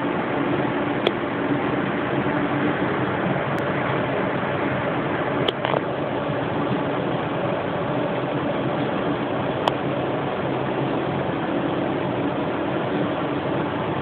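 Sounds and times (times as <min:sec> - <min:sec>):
machinery hum with hiss: 0:00.0 - 0:14.0.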